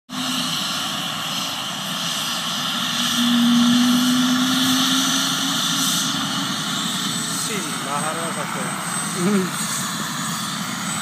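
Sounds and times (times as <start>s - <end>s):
helicopter turbine and rotor whine: 0.1s - 11.0s
low hum: 0.1s - 11.0s.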